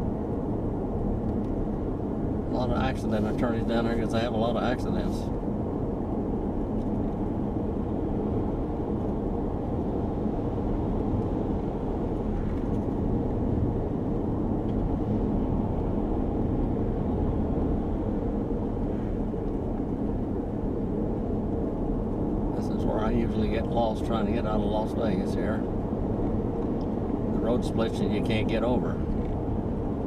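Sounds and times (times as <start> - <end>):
car cabin road and engine noise: 0.0 - 30.0.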